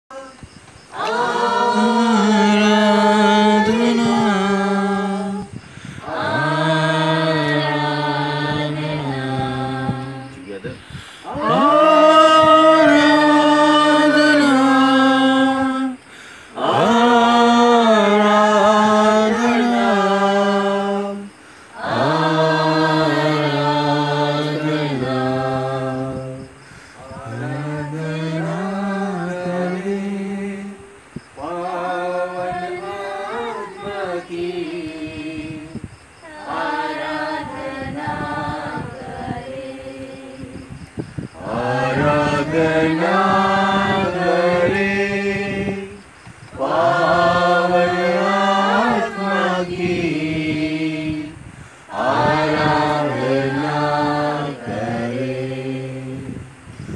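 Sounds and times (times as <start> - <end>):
voices chanting a hymn: 0.1 - 56.9.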